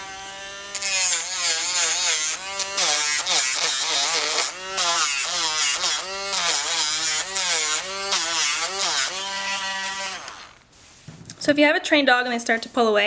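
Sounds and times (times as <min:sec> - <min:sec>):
rotary tool grinding nail: 0:00.0 - 0:10.6.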